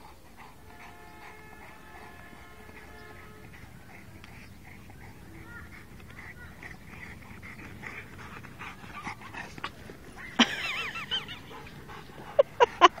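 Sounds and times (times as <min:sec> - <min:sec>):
dogs panting: 0:00.0 - 0:13.0
dogs whining: 0:00.0 - 0:13.0.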